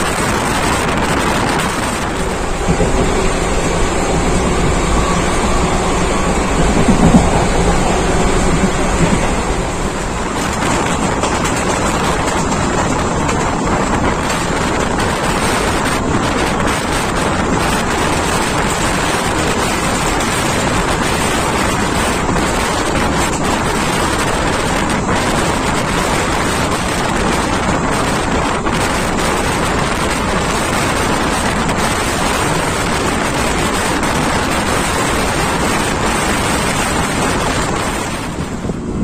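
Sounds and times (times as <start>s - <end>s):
train wheels rushing on rails: 0.0s - 39.0s
wind buffeting microphone: 0.0s - 39.0s.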